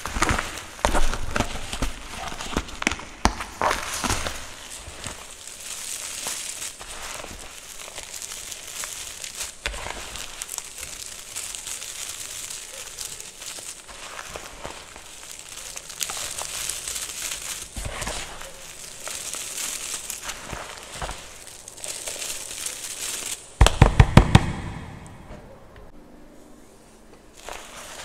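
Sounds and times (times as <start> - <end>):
chalk crunching by hand: 0.0 - 23.6, 27.3 - 28.0.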